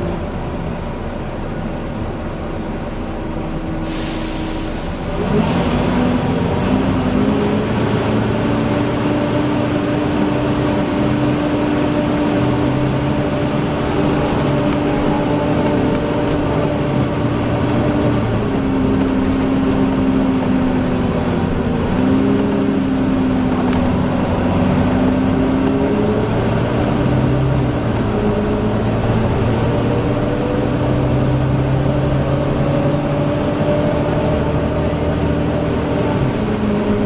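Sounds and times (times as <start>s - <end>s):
bus engine whining: 0.0s - 37.0s.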